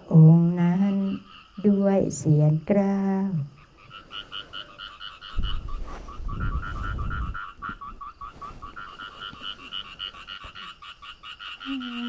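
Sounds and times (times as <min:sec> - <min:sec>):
frogs calling in chorus: 0:00.0 - 0:12.0.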